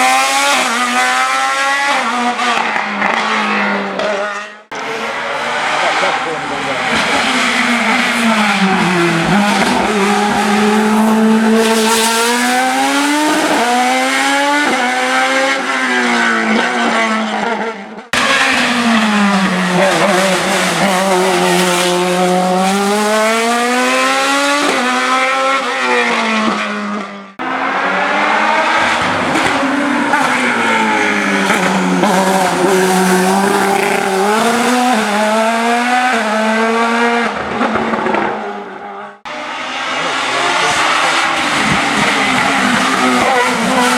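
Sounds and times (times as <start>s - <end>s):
race car engines upshifting: 0.0s - 43.9s.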